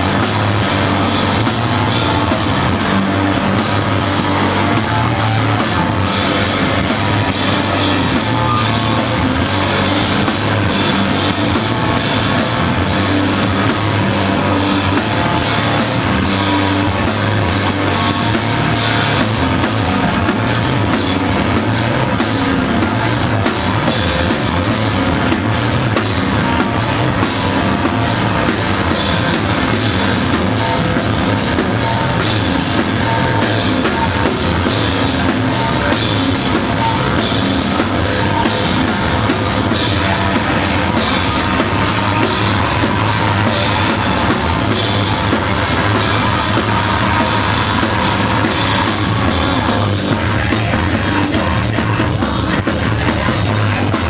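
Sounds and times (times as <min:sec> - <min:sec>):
distorted guitars: 0:00.0 - 0:54.0
fast drumming with cymbals: 0:00.0 - 0:54.0.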